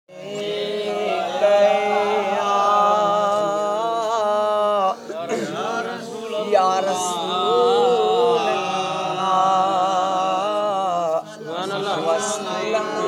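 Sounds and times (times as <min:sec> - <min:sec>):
man singing devotional chant: 0:00.1 - 0:13.0.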